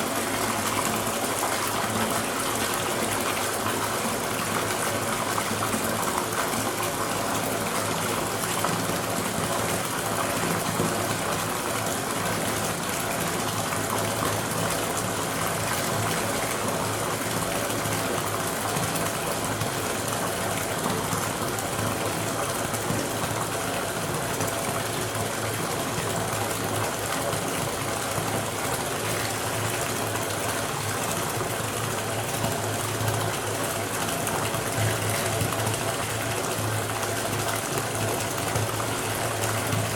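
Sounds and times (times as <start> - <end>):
water pouring from tap into tub: 0.0 - 39.9.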